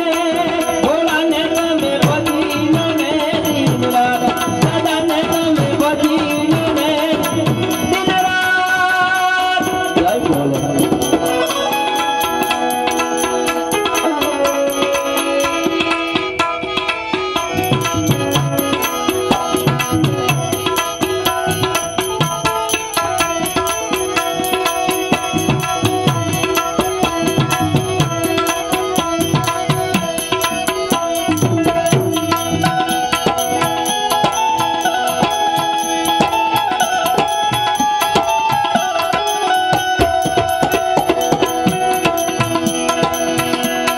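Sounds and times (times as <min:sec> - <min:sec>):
hand cymbals: 0:00.0 - 0:43.9
harmonium chords: 0:00.0 - 0:43.9
tabla rhythm: 0:00.0 - 0:43.9.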